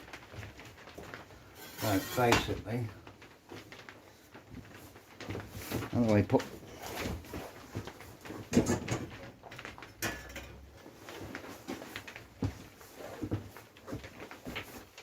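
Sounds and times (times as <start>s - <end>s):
parts and tools clattering: 0.1s - 15.0s.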